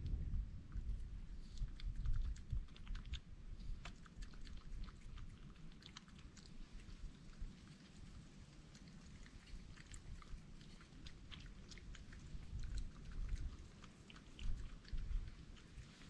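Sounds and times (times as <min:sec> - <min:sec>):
animal chewing and crunching food: 0:00.0 - 0:16.0.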